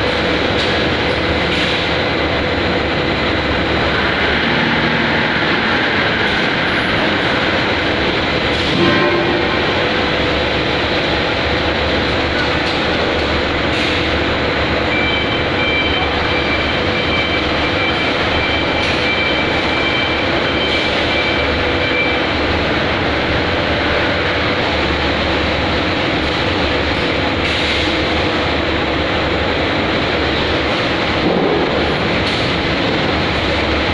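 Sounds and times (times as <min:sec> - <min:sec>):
factory machinery din: 0:00.0 - 0:33.9.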